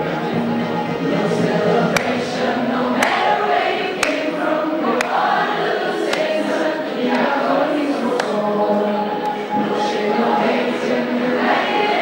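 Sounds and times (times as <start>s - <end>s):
many voices singing: 0.0s - 12.0s.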